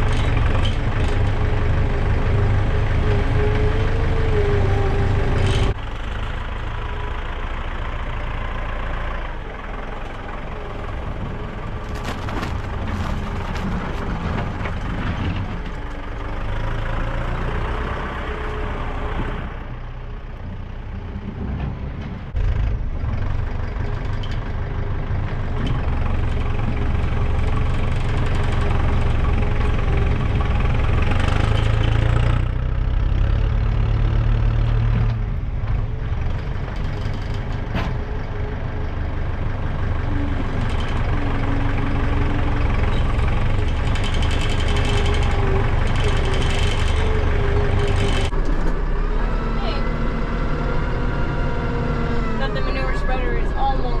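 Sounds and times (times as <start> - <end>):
tractor engine rumbling: 0.0 - 54.0.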